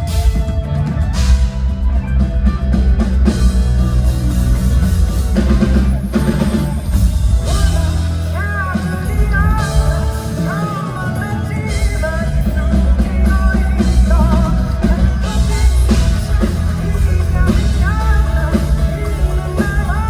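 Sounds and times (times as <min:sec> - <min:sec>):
bass line: 0:00.0 - 0:20.0
drum kit: 0:00.0 - 0:20.0
electric guitar: 0:00.0 - 0:20.0.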